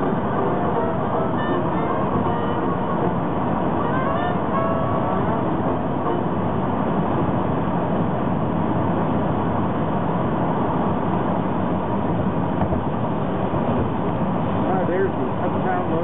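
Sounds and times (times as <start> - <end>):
freight train rumble: 0.0 - 16.0
road and wind noise in car: 0.0 - 16.0.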